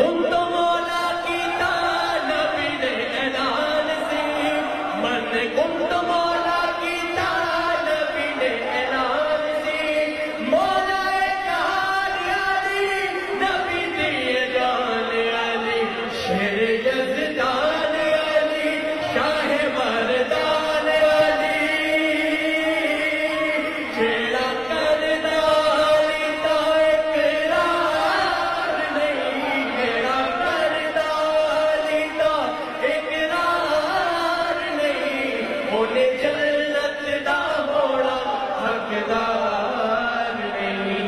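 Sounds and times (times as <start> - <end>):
man singing into a microphone: 0.0 - 41.0.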